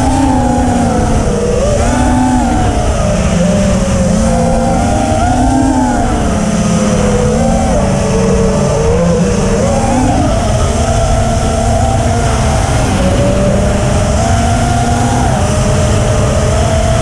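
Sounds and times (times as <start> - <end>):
quadcopter propellers whining: 0.0 - 17.0
rough rushing noise: 0.0 - 17.0.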